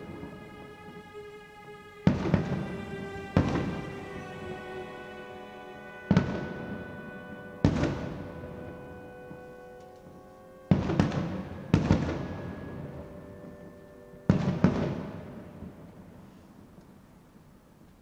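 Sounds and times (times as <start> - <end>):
fireworks bursting: 0.0 - 17.0
held music chords: 0.0 - 17.4.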